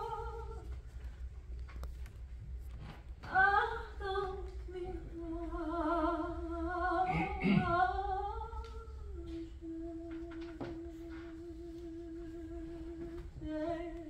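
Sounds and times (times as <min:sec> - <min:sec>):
woman singing with vibrato: 0:00.0 - 0:00.8, 0:03.2 - 0:14.0.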